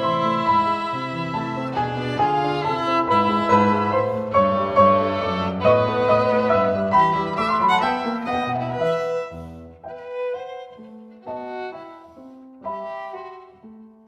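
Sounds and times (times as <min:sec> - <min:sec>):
violin melody with accompaniment: 0:00.0 - 0:14.0.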